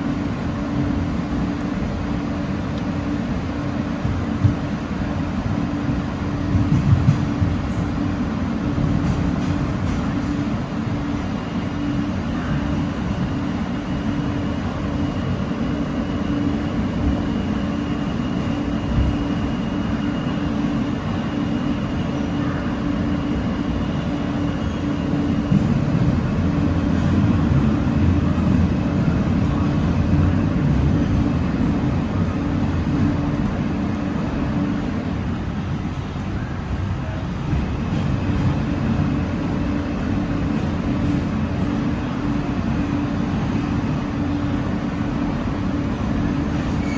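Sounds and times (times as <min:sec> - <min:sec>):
subway wheels rumbling on rails: 0:00.0 - 0:46.9.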